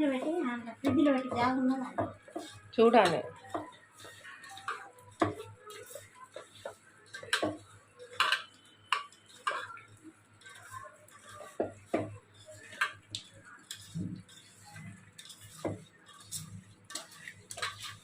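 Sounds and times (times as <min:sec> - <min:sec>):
spoons and dishes clinking: 0:02.0 - 0:18.0.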